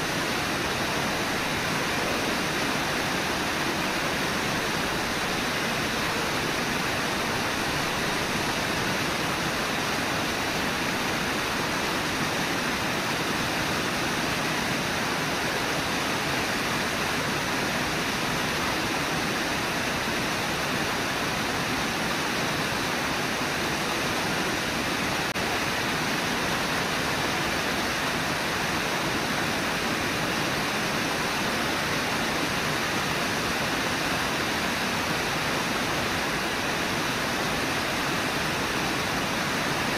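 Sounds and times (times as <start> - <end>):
white water roaring: 0.0 - 39.9.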